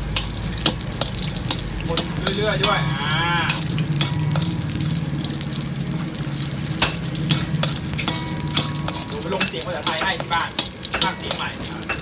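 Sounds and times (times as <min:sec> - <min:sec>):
sausage sizzling in hot oil: 0:00.0 - 0:12.0.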